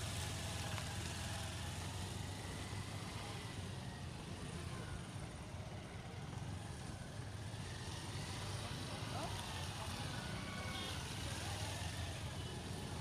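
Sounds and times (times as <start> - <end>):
other motorcycles running: 0.0 - 13.0
small motorcycle engine humming: 0.0 - 13.0.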